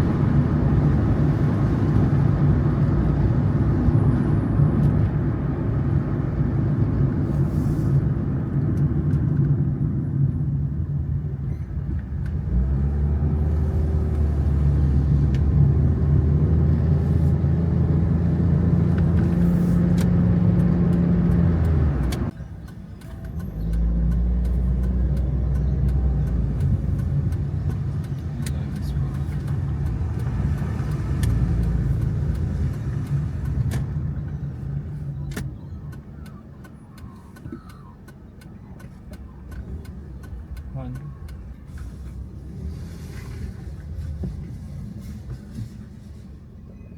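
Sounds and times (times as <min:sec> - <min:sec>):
car engine hum: 0:00.0 - 0:46.9
road noise: 0:00.0 - 0:46.9.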